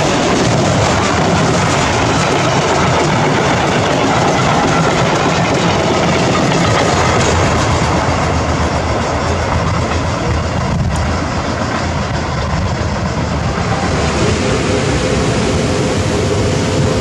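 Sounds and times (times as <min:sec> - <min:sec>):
freight train wheels rushing: 0:00.0 - 0:17.0.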